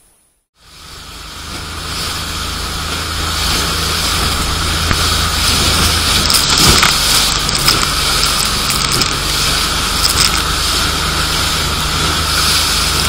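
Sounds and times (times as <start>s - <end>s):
motorboat engine humming: 0.6s - 13.0s
water spray hissing: 0.6s - 13.0s
wind on microphone: 1.4s - 13.0s.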